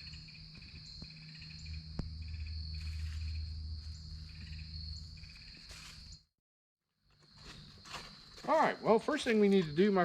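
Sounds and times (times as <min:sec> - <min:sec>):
crickets and insects chirping: 0:00.0 - 0:06.3, 0:06.9 - 0:10.0.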